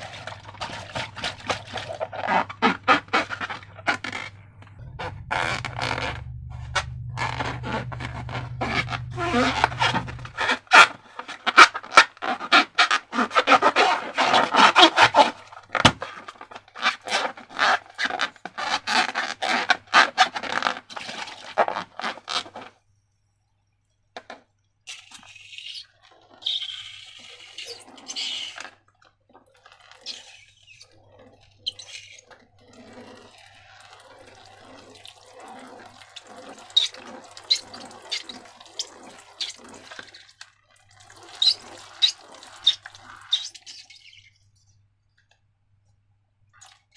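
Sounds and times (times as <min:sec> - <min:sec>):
slime wet squelching: 0:00.0 - 0:18.0, 0:24.9 - 0:44.7.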